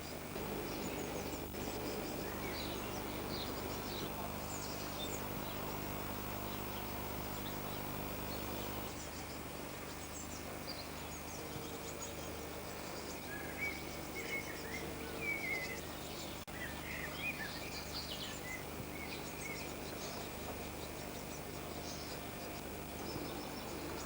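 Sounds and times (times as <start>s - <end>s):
low background hum: 0.0s - 24.0s
songbirds chirping: 0.0s - 24.0s.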